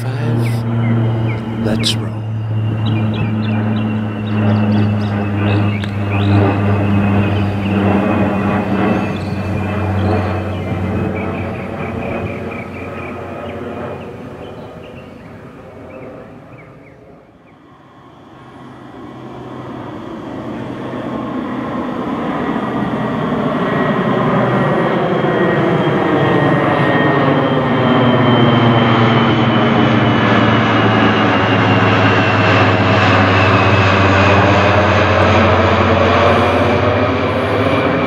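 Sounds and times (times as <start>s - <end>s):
propeller aircraft passing overhead: 0.0s - 38.0s.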